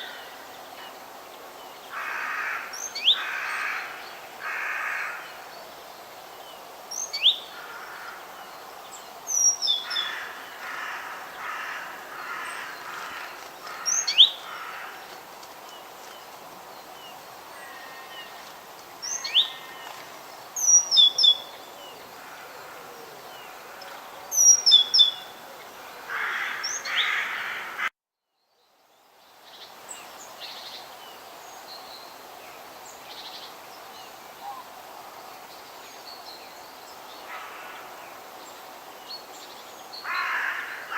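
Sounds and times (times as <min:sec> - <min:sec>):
background hiss: 0:00.0 - 0:40.9
songbirds calling: 0:00.0 - 0:40.9.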